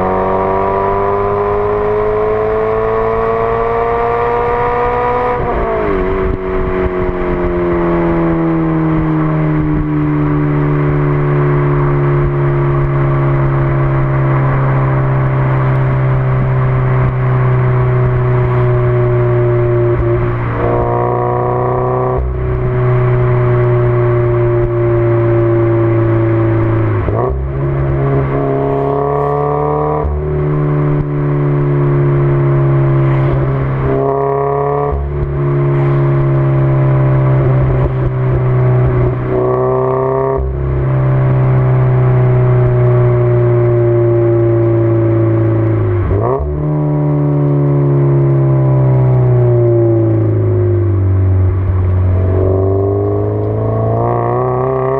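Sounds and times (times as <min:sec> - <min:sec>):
car engine changing pitch: 0:00.0 - 0:54.9.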